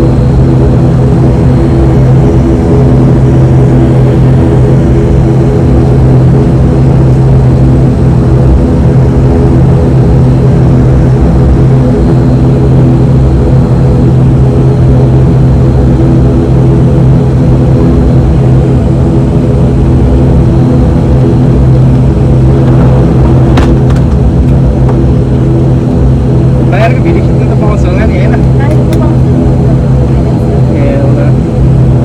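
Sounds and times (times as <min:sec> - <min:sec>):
propeller engines droning: 0:00.0 - 0:32.0.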